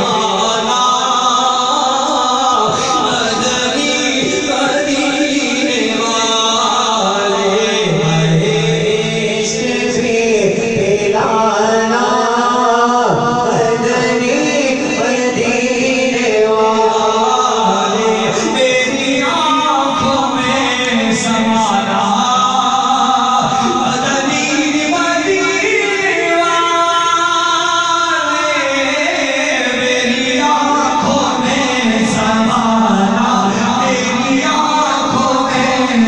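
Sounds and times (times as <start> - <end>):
man chanting devotional poem: 0.0 - 36.0.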